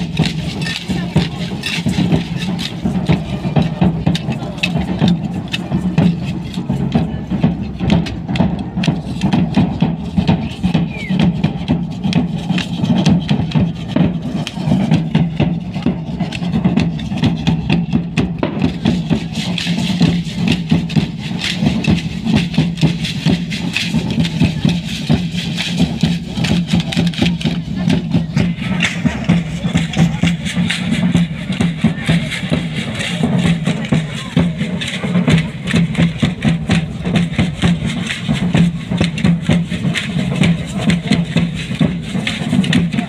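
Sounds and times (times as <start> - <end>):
folk dance music with percussive beat: 0.0 - 43.0.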